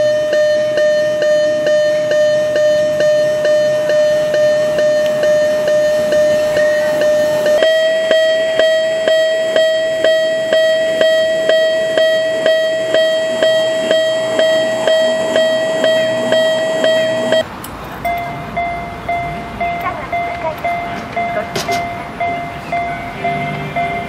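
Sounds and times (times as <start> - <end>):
crossing warning bell ringing: 0.0 - 24.0
higher crossing bell: 0.0 - 24.0.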